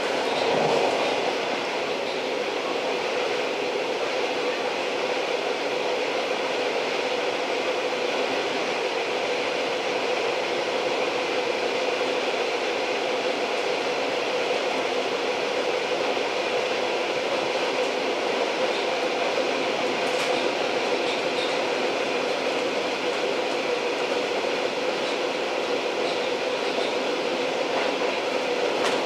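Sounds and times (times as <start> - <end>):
train rolling: 0.0 - 29.0.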